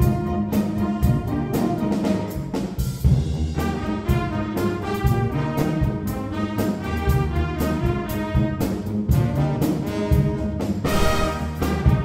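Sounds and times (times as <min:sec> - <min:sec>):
brass music with drum beat: 0:00.0 - 0:12.0.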